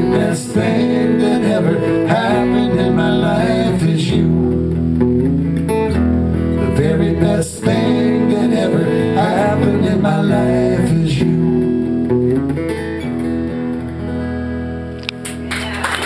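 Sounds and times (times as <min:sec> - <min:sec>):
electric bass: 0:00.0 - 0:15.6
electric guitar: 0:00.0 - 0:16.0.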